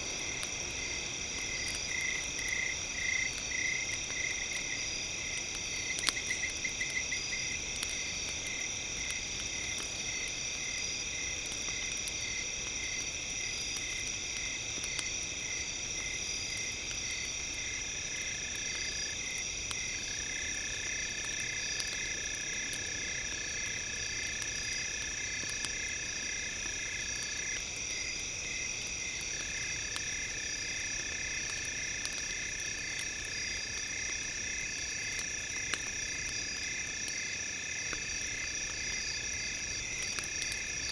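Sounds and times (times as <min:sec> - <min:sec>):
campfire crackles: 0:00.0 - 0:40.9.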